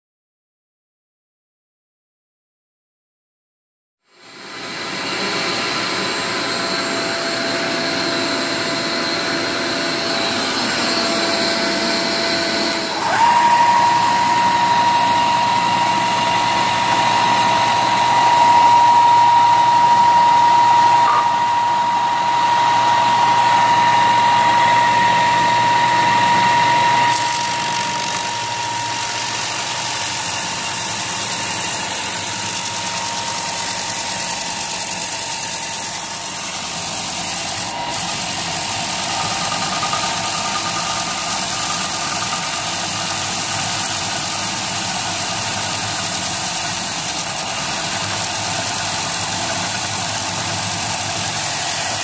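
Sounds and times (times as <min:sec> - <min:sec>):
electric sander on wood: 0:04.3 - 0:52.0.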